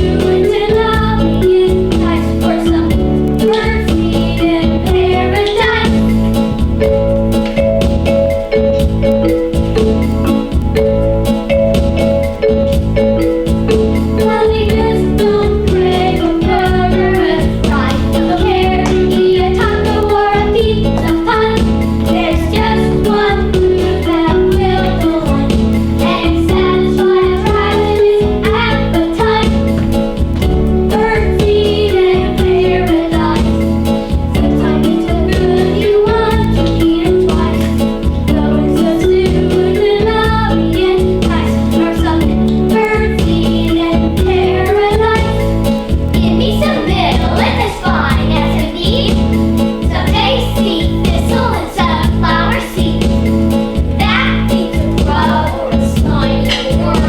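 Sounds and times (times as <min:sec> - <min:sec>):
song with steady beat: 0:00.0 - 0:57.0
voices singing: 0:00.0 - 0:57.0.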